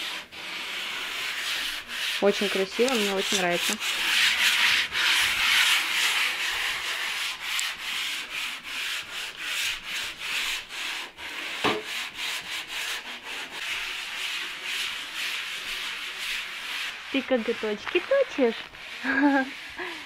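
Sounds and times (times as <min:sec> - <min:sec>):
sandpaper rubbing: 0:00.0 - 0:20.0.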